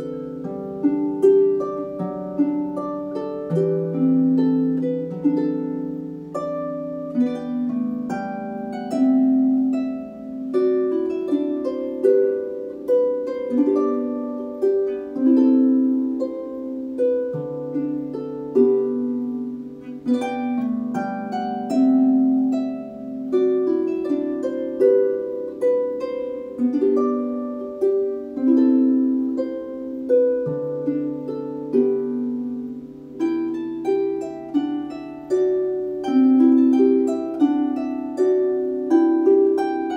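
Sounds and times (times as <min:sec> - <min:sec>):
harp melody: 0:00.0 - 0:39.9.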